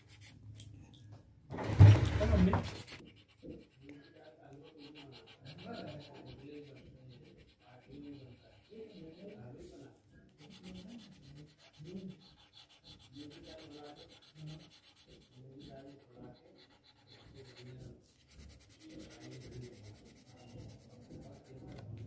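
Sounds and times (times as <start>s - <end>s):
pencil scratching on paper: 0.0s - 0.4s, 1.6s - 22.0s.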